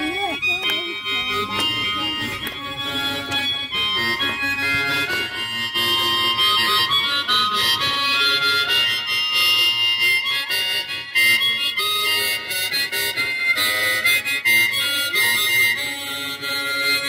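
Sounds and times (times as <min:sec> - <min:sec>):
harmonica playing a tune: 0:00.0 - 0:17.0.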